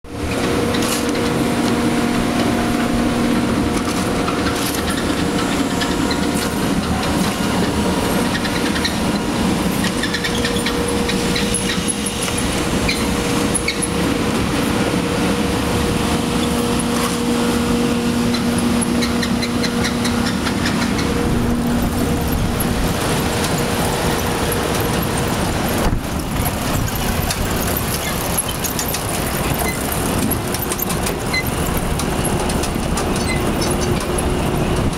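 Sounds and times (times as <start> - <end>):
machine motor hum: 0.1 - 34.9
potatoes clattering on conveyor belts: 0.2 - 34.9.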